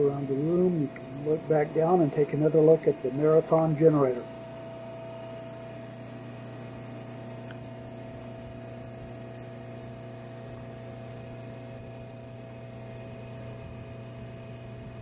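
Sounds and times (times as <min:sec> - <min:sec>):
generator hum: 0:00.0 - 0:15.0.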